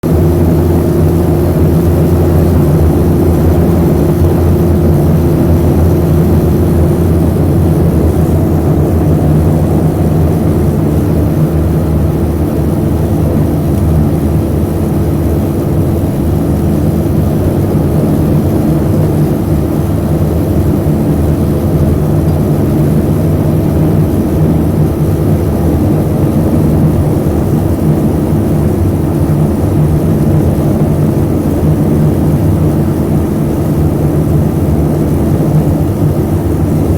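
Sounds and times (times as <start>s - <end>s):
turboprop engines droning: 0.0s - 36.9s.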